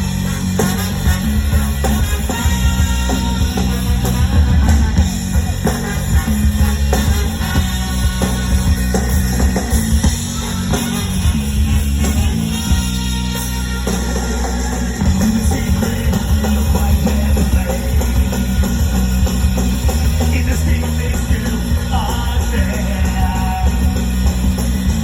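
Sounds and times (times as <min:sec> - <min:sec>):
bass guitar: 0:00.0 - 0:25.0
distorted electric guitar: 0:00.0 - 0:25.0
drum kit: 0:00.0 - 0:25.0.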